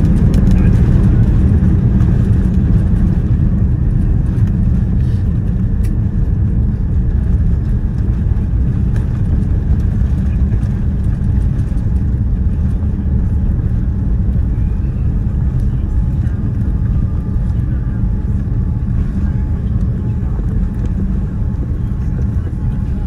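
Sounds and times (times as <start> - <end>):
airplane cabin rumble on runway: 0.0 - 23.0.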